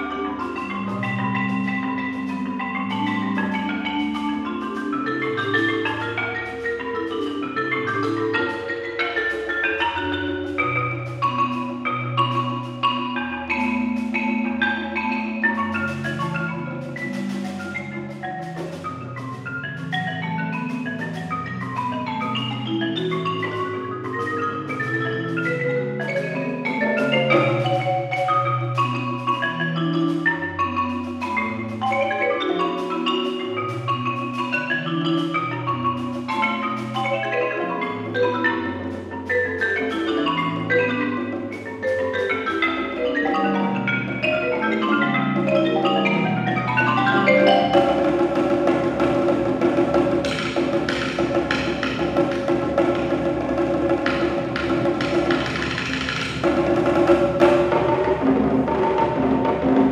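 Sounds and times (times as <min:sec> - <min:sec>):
marimba playing fast notes: 0:00.0 - 0:59.9.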